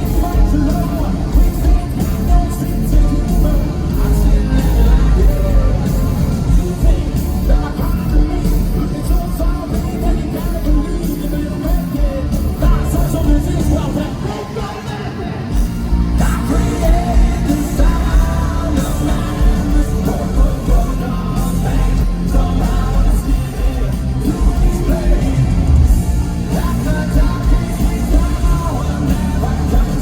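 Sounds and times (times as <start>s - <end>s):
man singing: 0.0s - 30.0s
rock band playing live: 0.0s - 30.0s.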